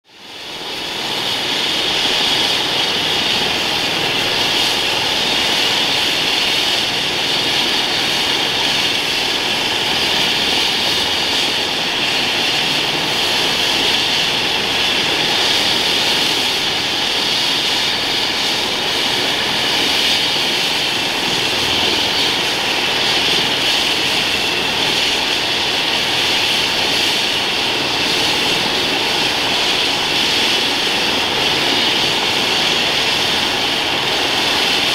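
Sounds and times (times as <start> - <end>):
helicopter turbine whine: 0.0 - 34.9.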